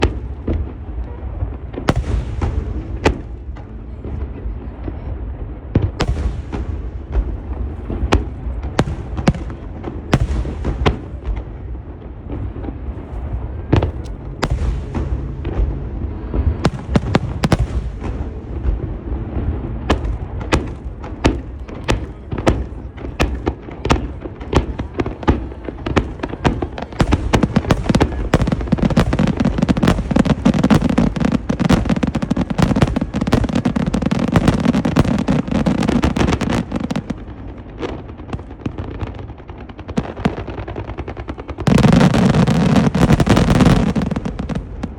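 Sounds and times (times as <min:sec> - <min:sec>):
fireworks bursting: 0:00.0 - 0:04.2, 0:05.7 - 0:44.9.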